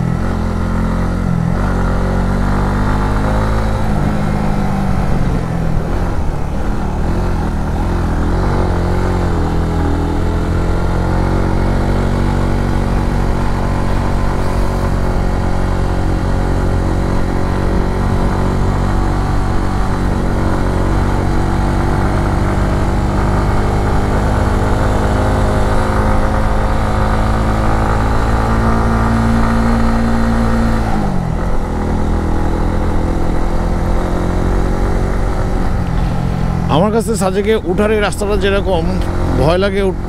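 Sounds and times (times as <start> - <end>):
motorcycle engine pulling uphill: 0.0 - 40.0.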